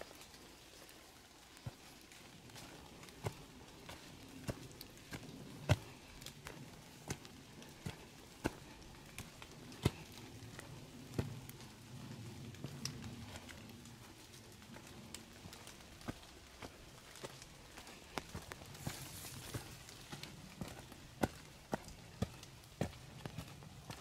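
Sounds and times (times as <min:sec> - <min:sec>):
footsteps on a trail: 0:00.0 - 0:24.0.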